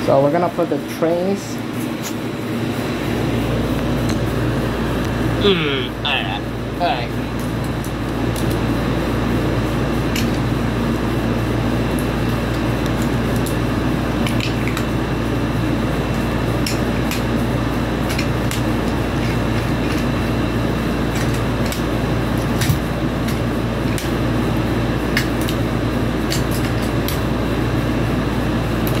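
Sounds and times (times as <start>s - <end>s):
background hum and hiss: 0.0s - 29.0s.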